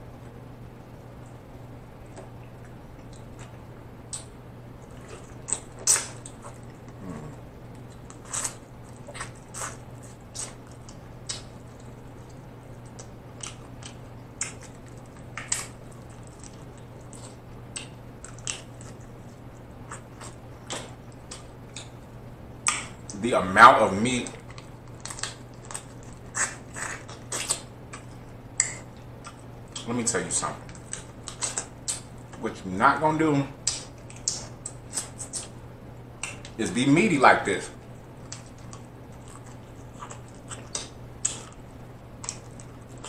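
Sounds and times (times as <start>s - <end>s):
low steady hum: 0.0s - 43.0s
wet smacks and chewing clicks: 2.0s - 23.2s, 24.2s - 32.4s, 33.6s - 36.6s, 37.8s - 43.0s.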